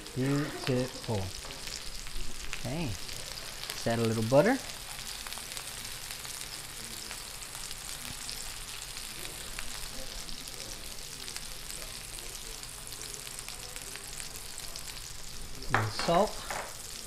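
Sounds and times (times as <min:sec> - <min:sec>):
steak sizzling on griddle: 0:00.0 - 0:17.0.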